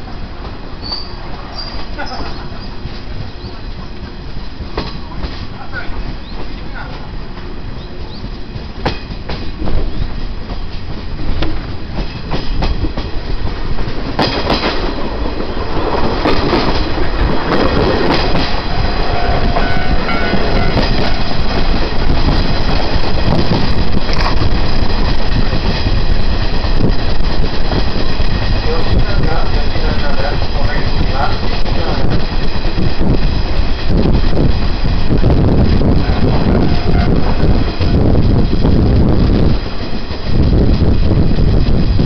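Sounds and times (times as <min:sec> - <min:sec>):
wheels clicking over rail joints: 0:00.0 - 0:41.8
train rumbling on rails: 0:00.0 - 0:42.0.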